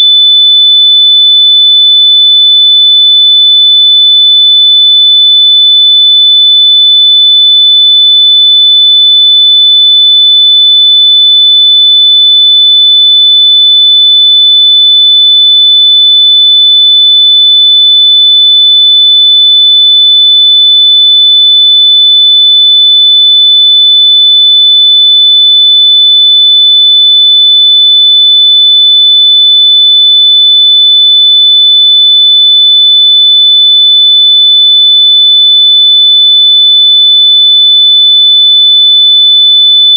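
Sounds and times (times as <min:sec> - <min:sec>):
high-pitched sine-wave beep tone: 0:00.0 - 0:19.6, 0:20.4 - 0:39.9.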